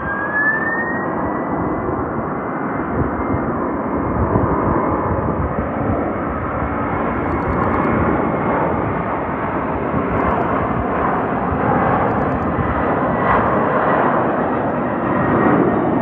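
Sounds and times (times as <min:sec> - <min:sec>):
jet taking off: 0:00.0 - 0:16.0.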